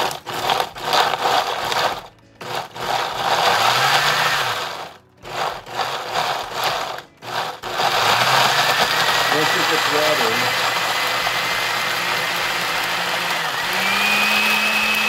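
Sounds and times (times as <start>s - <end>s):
blender motor whirring: 0.0s - 15.0s.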